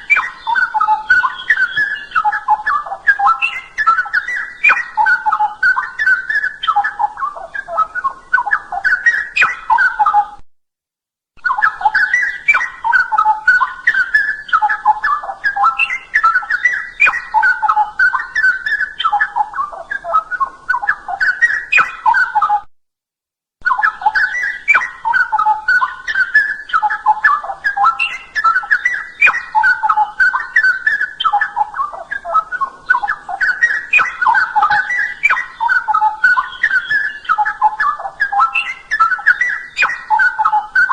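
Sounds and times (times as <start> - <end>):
bulbul singing warbled phrases: 0.0 - 10.4, 11.4 - 22.6, 23.6 - 40.9.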